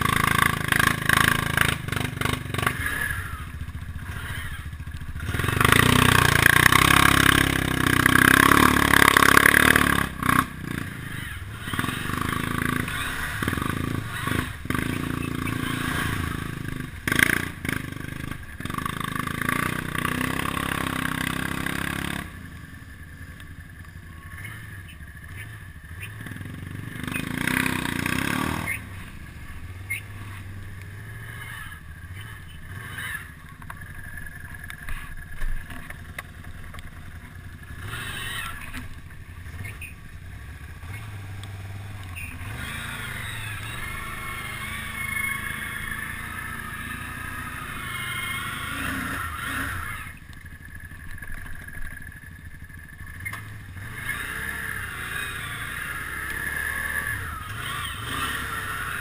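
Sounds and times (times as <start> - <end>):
atv engine under load: 0.0 - 59.0
high engine whine: 0.0 - 59.0.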